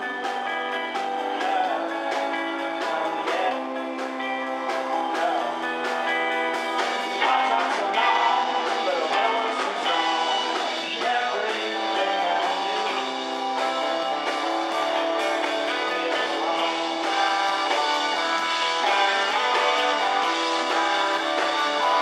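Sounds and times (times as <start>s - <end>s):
person singing: 0.0s - 6.1s, 7.0s - 22.0s
live rock band playing: 0.0s - 22.0s.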